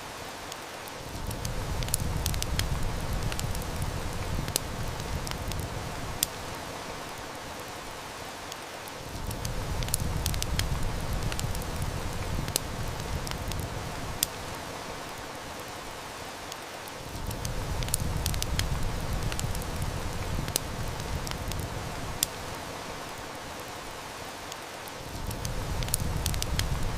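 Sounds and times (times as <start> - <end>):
heavy rain hissing: 0.0 - 26.9
wood fire crackling: 0.0 - 26.9.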